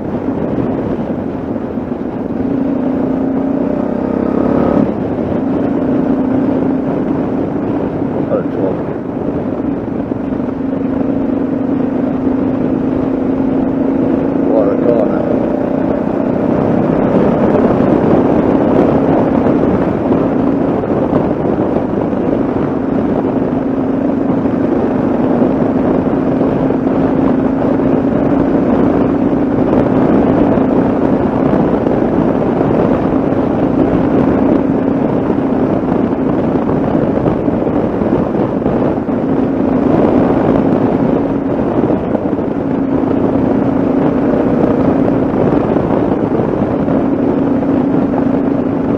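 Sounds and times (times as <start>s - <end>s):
motorcycle engine cruising: 0.0s - 48.9s
wind on microphone: 0.0s - 48.9s.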